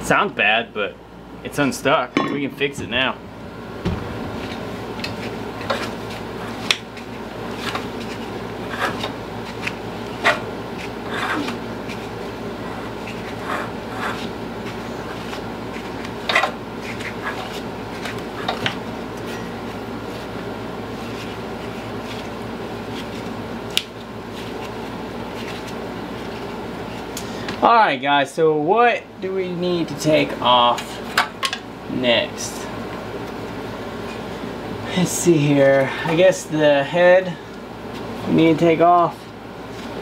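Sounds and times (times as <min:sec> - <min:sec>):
shop fan humming: 0:00.0 - 0:40.0.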